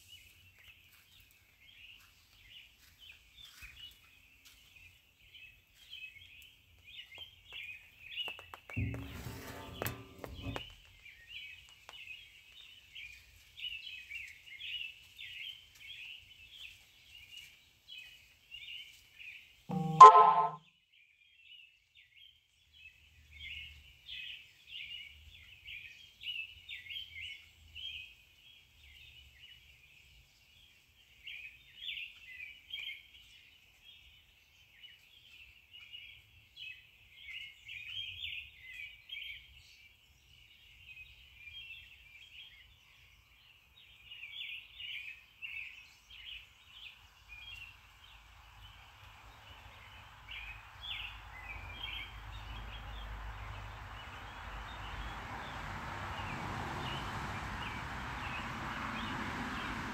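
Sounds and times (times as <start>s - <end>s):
small birds chirping: 0.0s - 55.6s.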